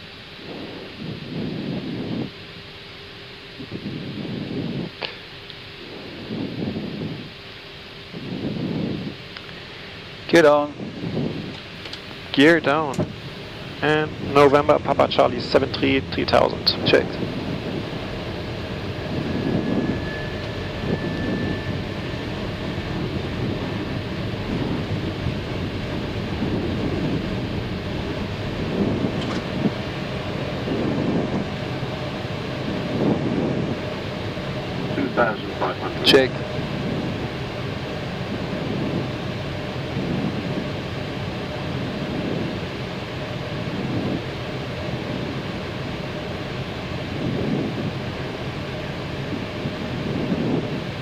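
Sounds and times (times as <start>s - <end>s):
airflow and engine rumble: 0.0s - 51.0s
faint thin whine: 0.0s - 51.0s.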